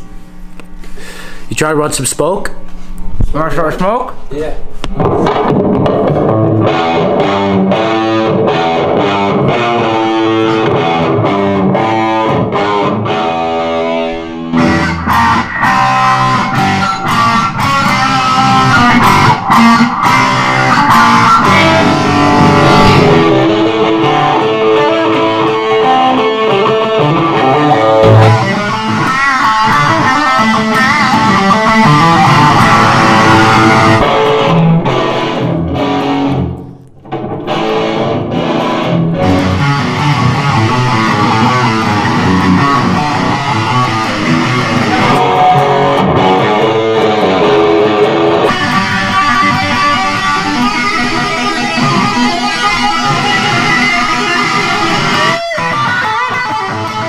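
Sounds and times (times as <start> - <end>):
electric guitar music with beat: 4.6 - 57.0.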